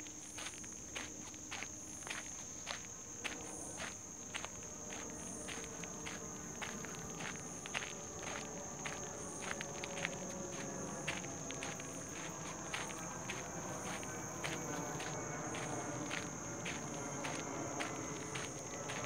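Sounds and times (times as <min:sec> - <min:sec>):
footsteps on paved path: 0:00.0 - 0:19.0
insects droning: 0:00.0 - 0:19.0.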